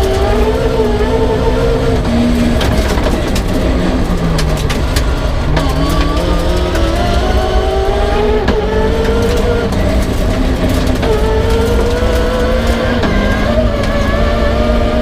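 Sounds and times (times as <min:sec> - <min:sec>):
rally car engine accelerating: 0:00.0 - 0:15.0
road and tyre noise: 0:00.0 - 0:15.0.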